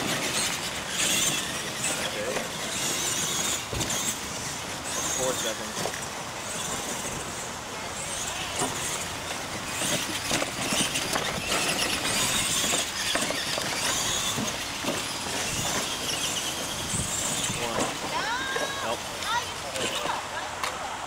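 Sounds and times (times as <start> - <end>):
toy truck motors whining: 0.0 - 20.4
tyres scrabbling on dirt: 0.0 - 20.4.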